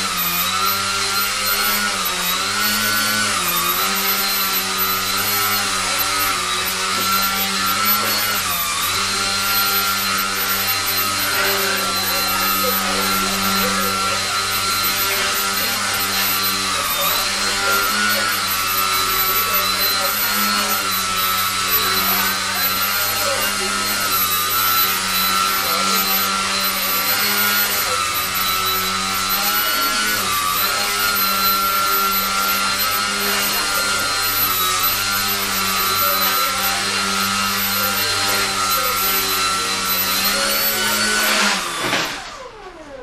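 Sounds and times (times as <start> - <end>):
model helicopter high whine: 0.0 - 43.0.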